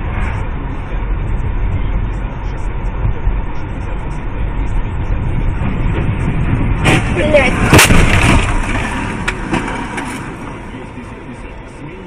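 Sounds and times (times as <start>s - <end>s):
car engine: 0.0s - 12.0s
road noise: 0.0s - 12.0s.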